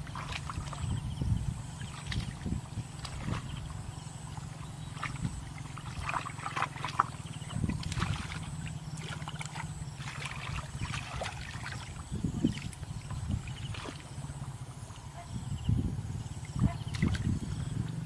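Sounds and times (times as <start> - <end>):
water splashing and trickling: 0.0 - 15.3, 15.9 - 18.0
low pulsing motor hum: 0.0 - 18.0.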